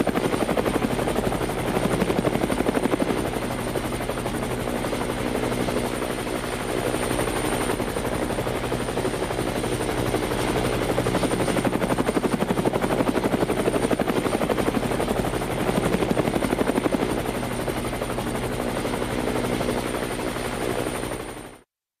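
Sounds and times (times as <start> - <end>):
helicopter rotor chopping: 0.0 - 21.5.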